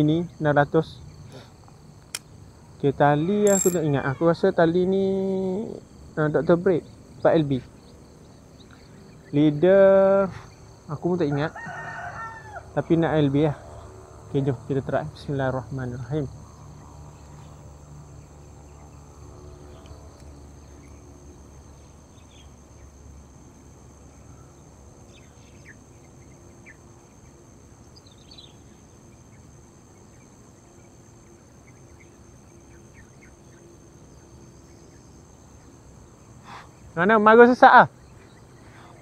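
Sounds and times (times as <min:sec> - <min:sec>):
crickets droning: 0:00.0 - 0:39.0
short insect chirps: 0:00.0 - 0:39.0.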